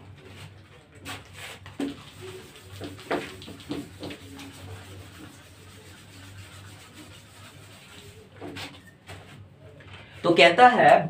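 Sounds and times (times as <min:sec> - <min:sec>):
soft rubbing and scratching: 0:00.1 - 0:10.2.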